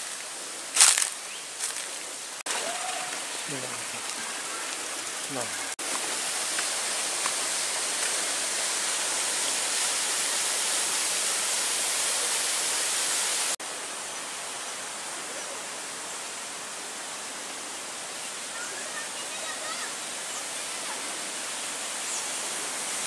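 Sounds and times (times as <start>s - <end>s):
waterfall splashing over rocks: 0.0s - 23.0s.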